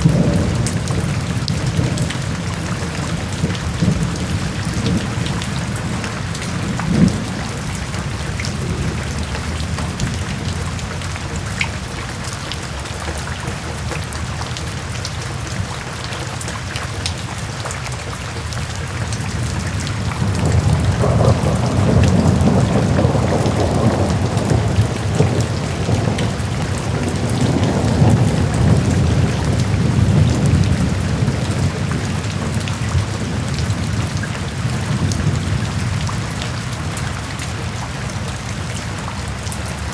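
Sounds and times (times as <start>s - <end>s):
rolling thunder rumble: 0.0s - 12.0s, 19.2s - 39.9s
raindrops ticking: 0.0s - 39.9s
steady rain: 0.0s - 39.9s.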